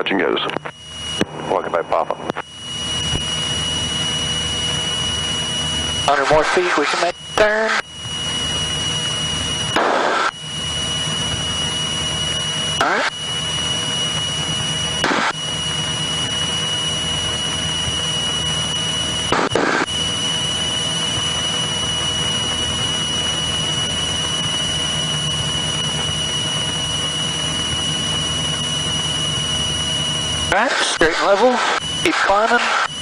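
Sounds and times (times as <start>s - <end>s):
aircraft engine and propeller drone: 0.0s - 33.0s
thin steady whine: 0.0s - 33.0s.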